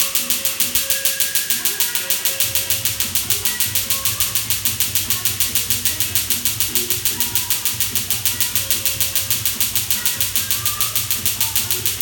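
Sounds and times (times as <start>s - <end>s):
laser snapping pulses: 0.0s - 12.0s.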